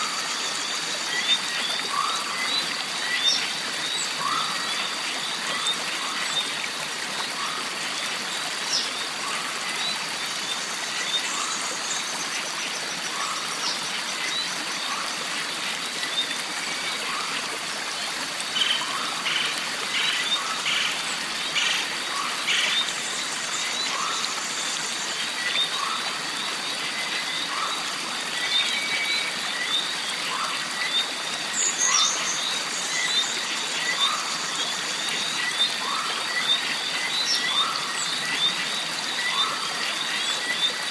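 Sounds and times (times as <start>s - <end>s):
water running and trickling: 0.0s - 40.9s.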